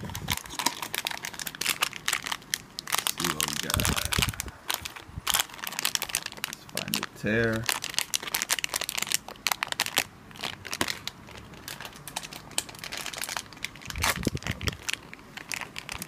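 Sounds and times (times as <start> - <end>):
cardboard packaging crinkling: 0.0 - 16.0.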